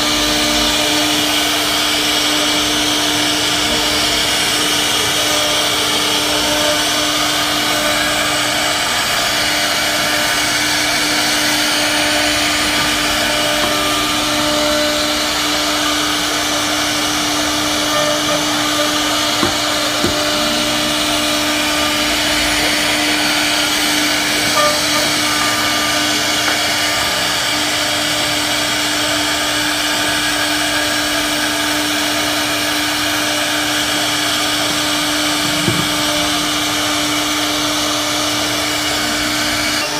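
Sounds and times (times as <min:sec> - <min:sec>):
wood router spindle whining: 0:00.0 - 0:39.9.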